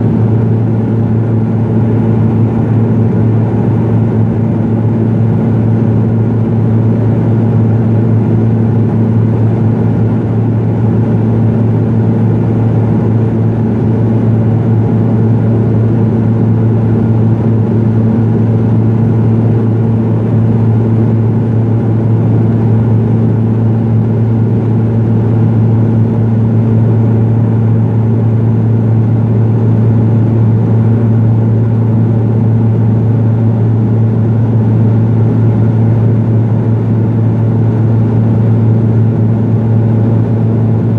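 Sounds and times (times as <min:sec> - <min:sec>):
turboprop engine and propeller drone: 0:00.0 - 0:40.9.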